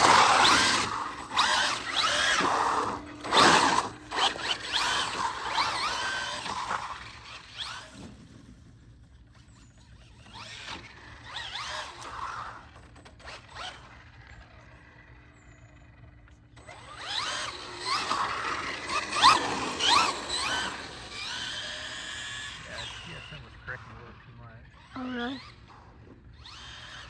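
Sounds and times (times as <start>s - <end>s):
electric motor whining: 0.0s - 8.7s, 9.4s - 27.0s.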